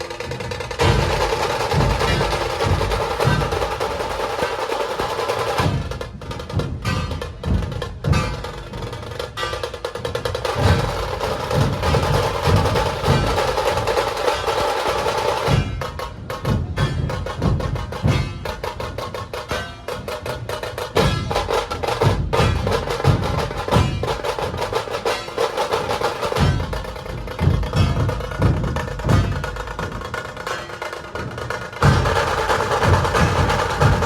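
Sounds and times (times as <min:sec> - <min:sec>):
deep drum beats: 0:00.0 - 0:34.0
rattling snare drum strokes: 0:00.0 - 0:34.0.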